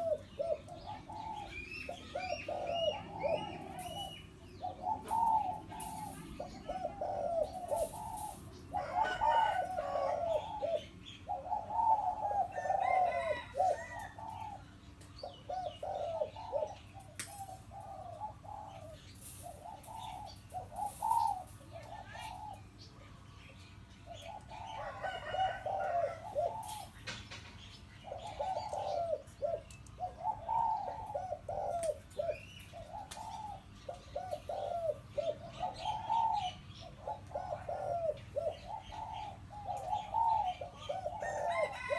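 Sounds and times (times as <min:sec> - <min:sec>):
dove cooing: 0:00.0 - 0:22.8, 0:24.0 - 0:41.9.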